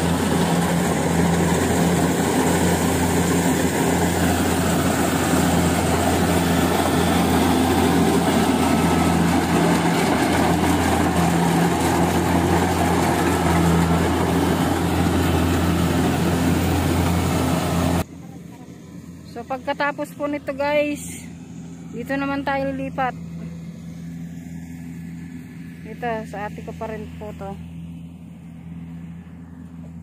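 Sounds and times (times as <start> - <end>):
combine harvester machinery running: 0.0 - 30.0.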